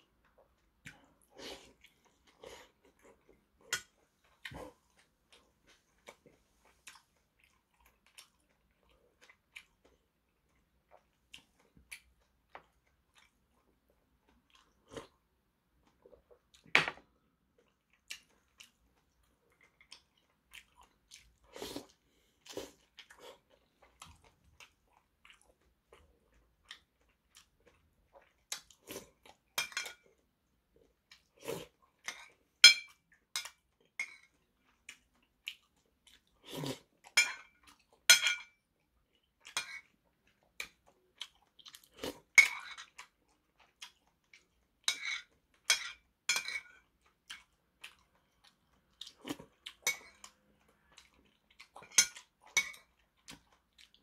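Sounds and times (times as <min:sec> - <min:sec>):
chewing: 0:00.2 - 0:15.2, 0:17.5 - 0:38.1, 0:38.8 - 0:46.0, 0:46.6 - 0:54.0.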